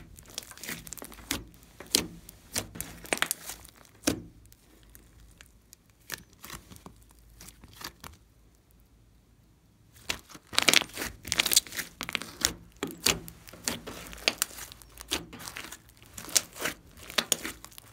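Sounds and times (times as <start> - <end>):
slime popping and crackling: 0.0 - 8.2, 10.0 - 17.9.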